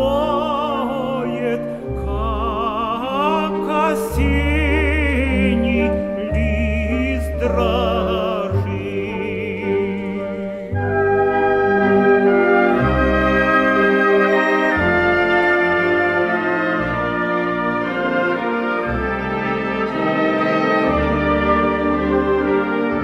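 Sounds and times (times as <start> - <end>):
orchestral music with brass: 0.0 - 23.0.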